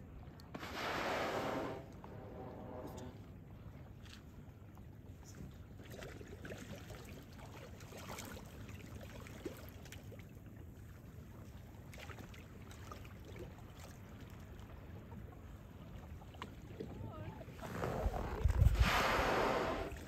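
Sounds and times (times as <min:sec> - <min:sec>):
water lapping and dripping: 0:01.5 - 0:20.0.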